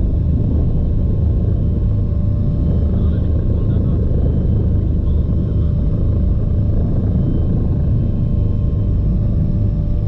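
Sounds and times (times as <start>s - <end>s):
faint steady whine: 0.0s - 10.0s
helicopter rotor and engine rumble: 0.0s - 10.0s.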